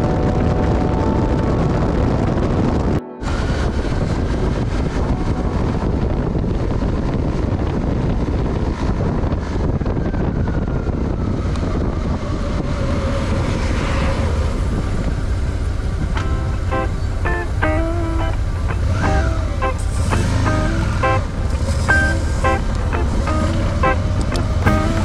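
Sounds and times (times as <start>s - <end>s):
road rumble: 0.0s - 25.0s
wind noise on microphone: 0.0s - 25.0s.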